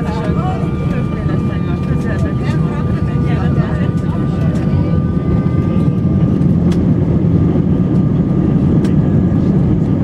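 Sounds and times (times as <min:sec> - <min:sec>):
jet engines rumbling with whine: 0:00.0 - 0:10.0.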